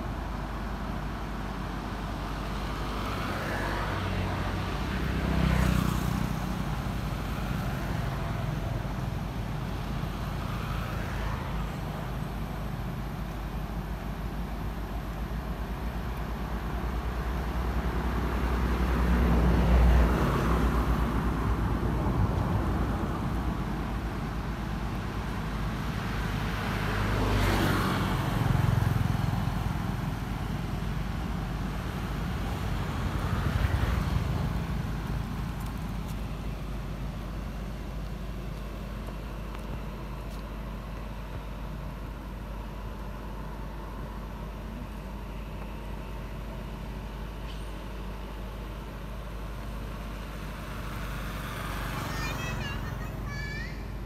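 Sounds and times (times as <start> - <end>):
low traffic hum: 0.0 - 54.0
vehicles passing: 0.0 - 54.0.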